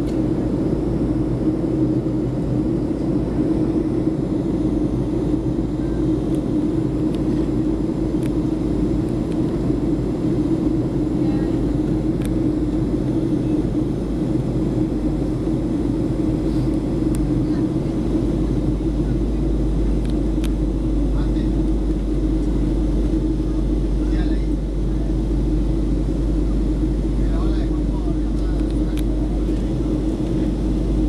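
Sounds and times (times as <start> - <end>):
jet engine drone: 0.0 - 31.0
low cabin hum: 0.0 - 31.0.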